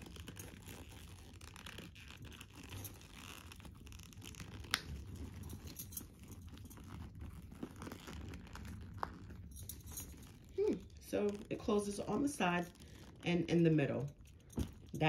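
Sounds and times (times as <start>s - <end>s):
leather rustling and scraping: 0.0s - 15.0s.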